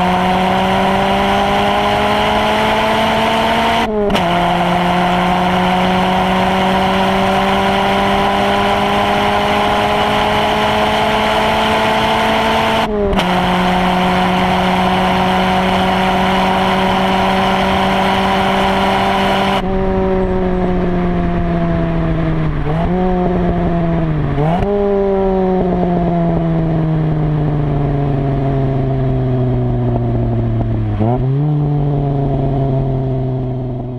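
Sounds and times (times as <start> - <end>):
race car engine at full throttle: 0.0 - 33.9
throttle blips on downshifts: 0.0 - 33.9.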